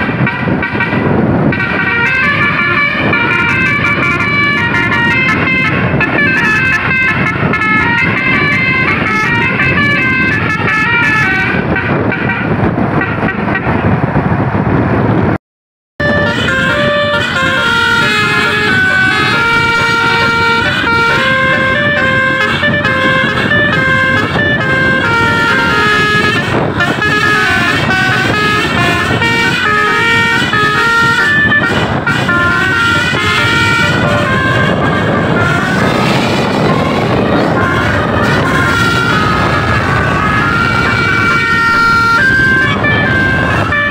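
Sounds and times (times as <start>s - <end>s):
musical bus horn playing a tune: 0.0s - 13.8s, 16.0s - 43.9s
bus engine: 0.0s - 15.4s, 16.0s - 43.9s
road noise: 0.0s - 15.4s, 16.0s - 43.9s.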